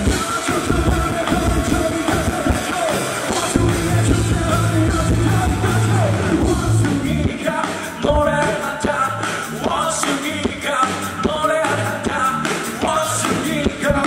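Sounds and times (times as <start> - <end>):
loud electric guitars: 0.0 - 14.0
person singing: 0.0 - 14.0.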